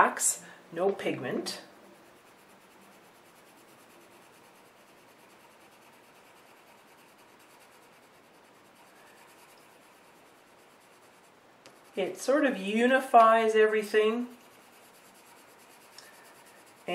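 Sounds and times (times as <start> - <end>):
pencil scratching on paper: 1.1 - 13.0, 13.6 - 16.9.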